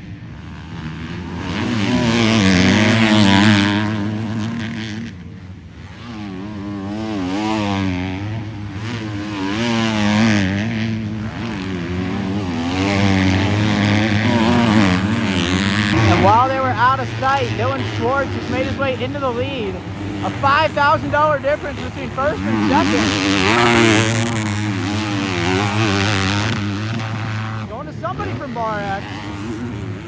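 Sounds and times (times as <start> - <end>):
motocross bikes revving past: 0.0 - 30.0.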